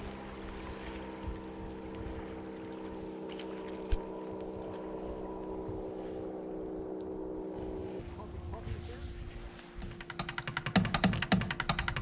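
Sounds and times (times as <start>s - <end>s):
wind rumbling on microphone: 0.0s - 10.0s
distant motor humming: 0.0s - 12.0s.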